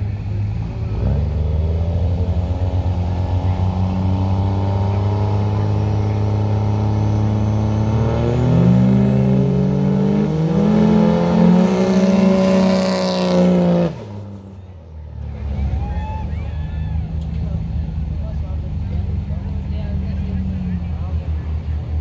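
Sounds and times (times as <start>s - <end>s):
pickup truck engines accelerating: 0.0s - 22.0s.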